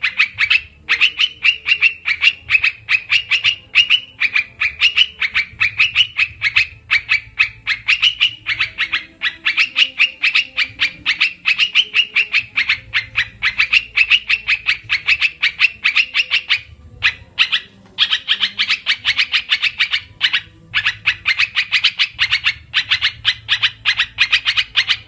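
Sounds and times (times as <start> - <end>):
bird rapid chattering notes: 0.0 - 25.0.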